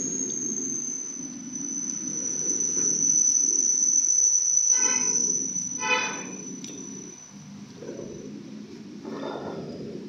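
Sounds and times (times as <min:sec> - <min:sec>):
high-pitched whine: 0:00.0 - 0:09.8.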